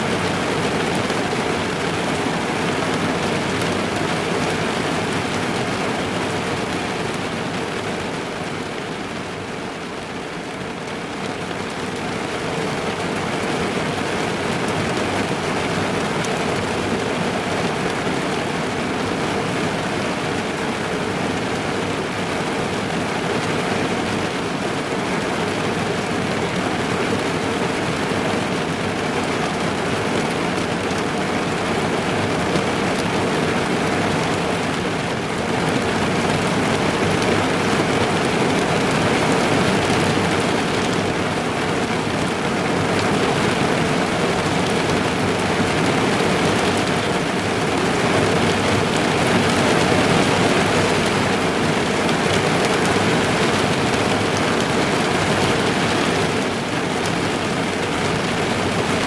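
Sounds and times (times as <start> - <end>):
heavy rain drumming on car roof: 0.0 - 59.0.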